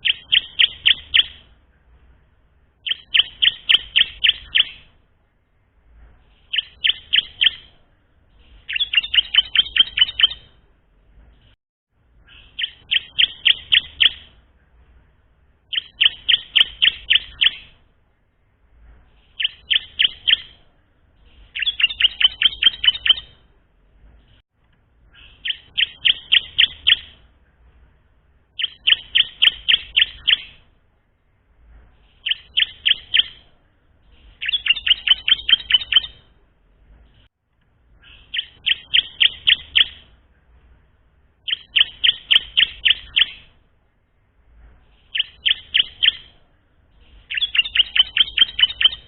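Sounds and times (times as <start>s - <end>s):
bird chirping song: 0.0s - 5.0s, 6.1s - 17.9s, 18.8s - 24.4s, 25.0s - 30.8s, 31.7s - 37.3s, 37.9s - 43.6s, 44.6s - 49.0s.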